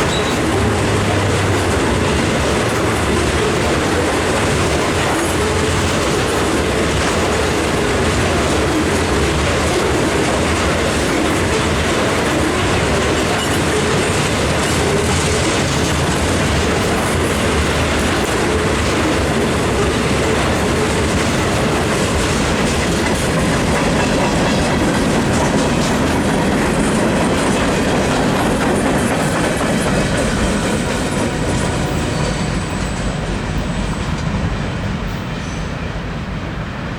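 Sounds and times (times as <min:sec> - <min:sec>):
train wheels clicking over rail joints: 0:00.0 - 0:35.7.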